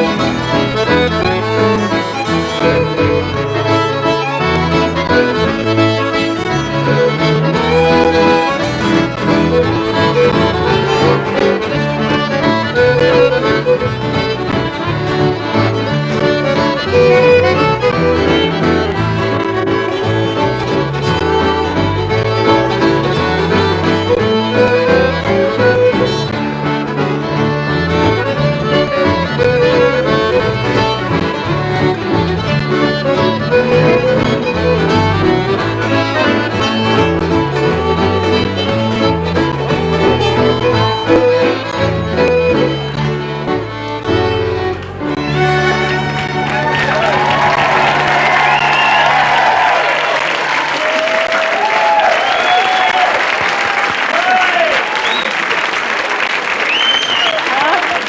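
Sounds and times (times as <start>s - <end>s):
fiddle: 0.0s - 55.2s
guitar accompaniment: 0.0s - 55.3s
folk dance tune on accordion: 0.0s - 58.0s.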